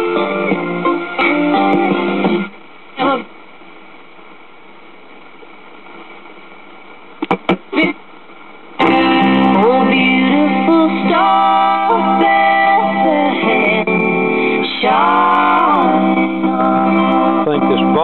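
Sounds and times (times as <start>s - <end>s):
radio music with singing: 0.0s - 4.2s, 5.0s - 18.0s
radio static hiss: 0.0s - 18.0s
static crackles: 0.0s - 18.0s.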